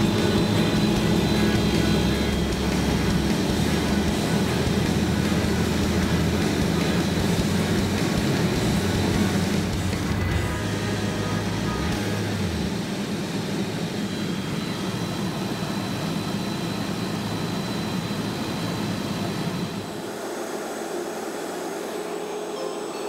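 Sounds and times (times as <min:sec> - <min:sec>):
helicopter engine and rotor noise: 0:00.0 - 0:23.0
high turbine whine: 0:00.0 - 0:23.0.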